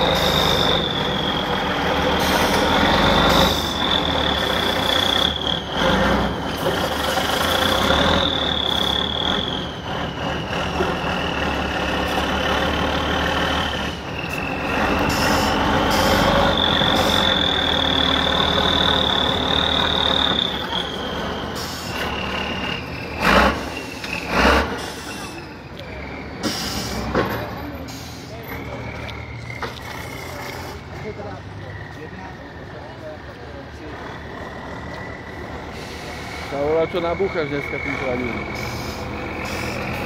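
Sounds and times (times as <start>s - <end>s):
truck engine under load: 0.0s - 40.0s.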